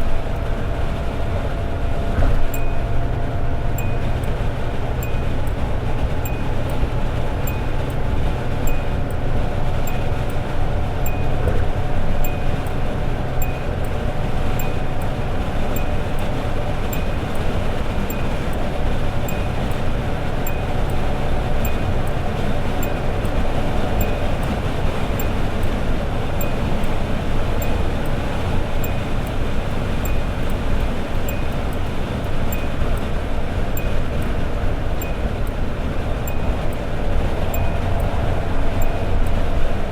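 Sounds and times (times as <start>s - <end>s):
car engine cruising: 0.0s - 39.9s
road noise rumble: 0.0s - 39.9s.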